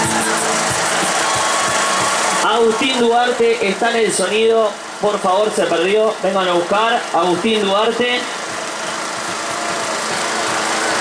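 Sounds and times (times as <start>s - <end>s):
large outdoor crowd hubbub: 0.0s - 11.0s.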